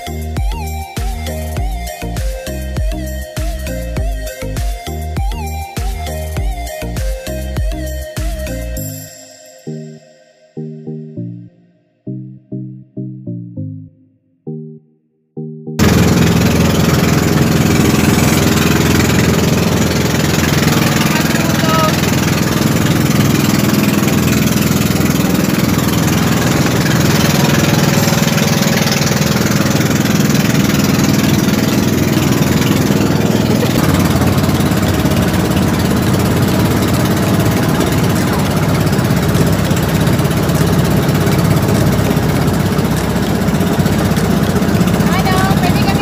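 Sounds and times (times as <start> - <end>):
boat engine running: 0.0 - 8.8, 15.8 - 46.0.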